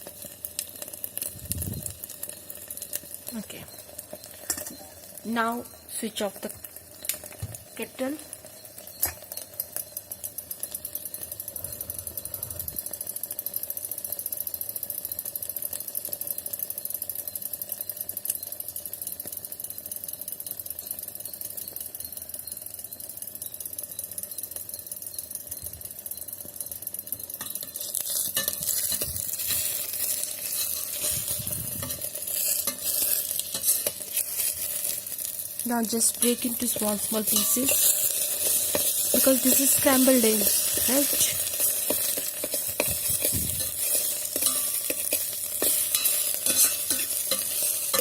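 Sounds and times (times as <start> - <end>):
egg frying in oil: 0.0 - 48.0.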